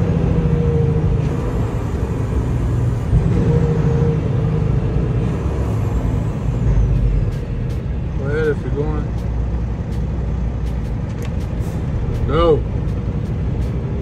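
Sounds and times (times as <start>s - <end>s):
diesel truck engine rumble: 0.0s - 14.0s
road noise: 0.0s - 14.0s.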